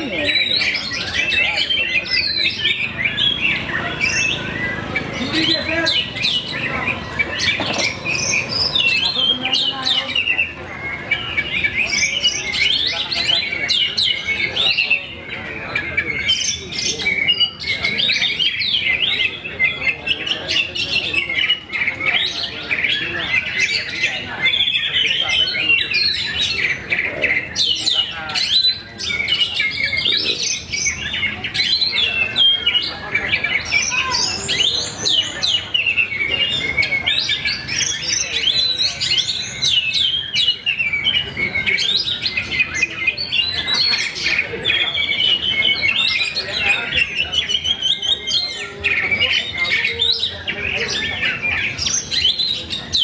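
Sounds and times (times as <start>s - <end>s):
bird warbling song: 0.0s - 53.0s.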